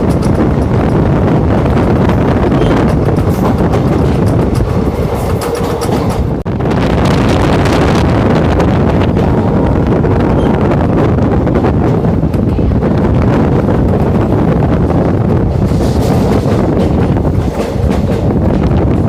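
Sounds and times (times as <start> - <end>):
train wheels rumbling on rails: 0.0 - 19.0
wind buffeting microphone: 0.0 - 19.0.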